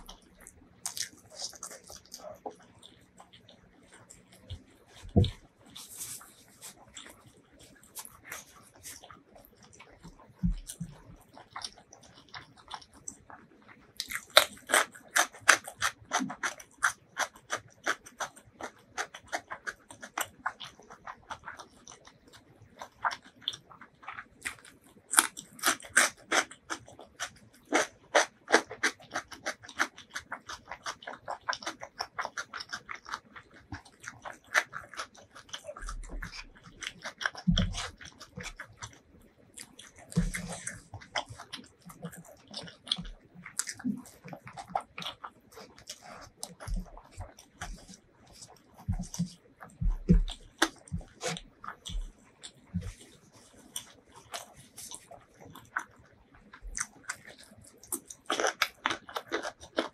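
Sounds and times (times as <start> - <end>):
chewing raw cucumber: 0.0 - 59.9.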